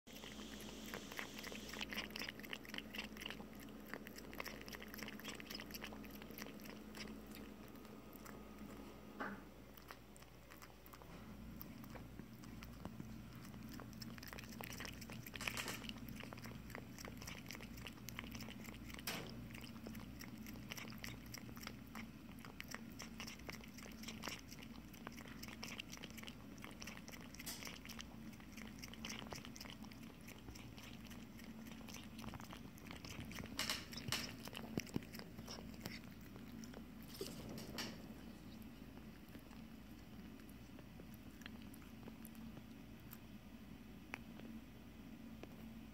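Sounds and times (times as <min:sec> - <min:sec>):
cat lapping milk: 0:00.1 - 0:44.7.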